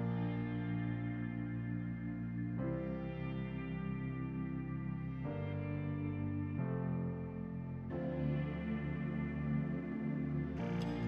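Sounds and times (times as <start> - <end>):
ambient music of held chords: 0.0 - 11.0.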